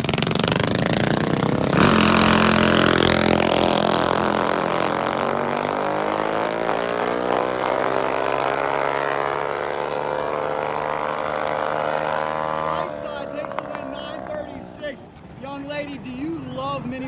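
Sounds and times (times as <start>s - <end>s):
minibike engines racing: 0.0s - 17.0s.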